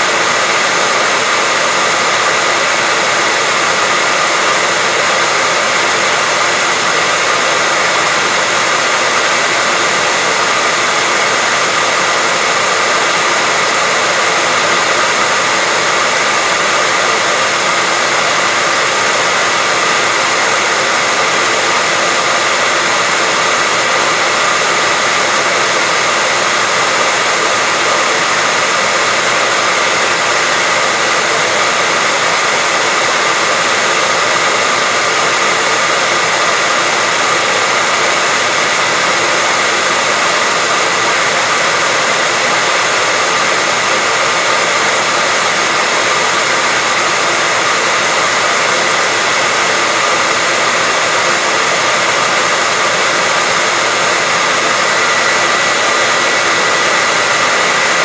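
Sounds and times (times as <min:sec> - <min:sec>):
hair dryer running: 0:00.0 - 0:58.0.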